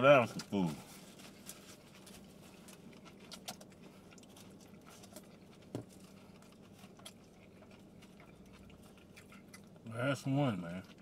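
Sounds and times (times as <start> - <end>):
chewing: 0.1 - 11.0.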